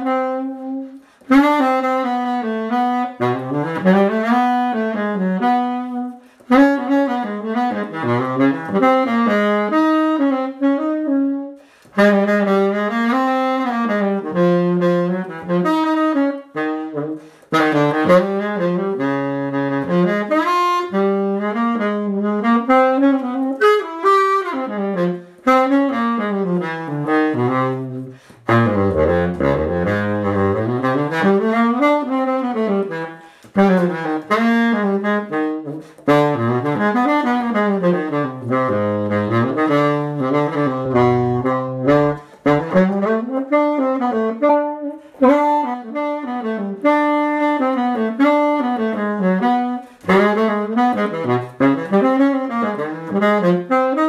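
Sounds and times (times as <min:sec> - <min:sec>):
baritone saxophone jazz line: 0:00.0 - 0:54.0.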